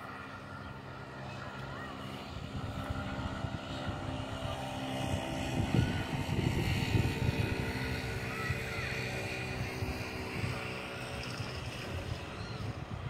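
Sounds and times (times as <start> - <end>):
engine hum: 0.0 - 13.0
wind buffeting microphone: 2.2 - 13.0.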